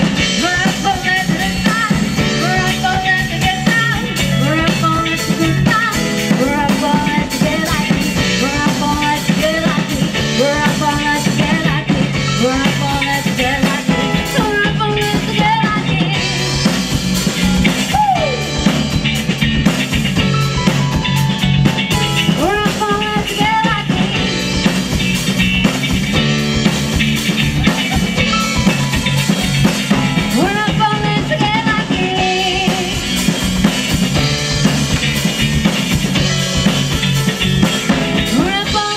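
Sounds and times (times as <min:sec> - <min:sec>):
drum kit beat: 0:00.0 - 0:38.9
rock band playing: 0:00.0 - 0:38.9.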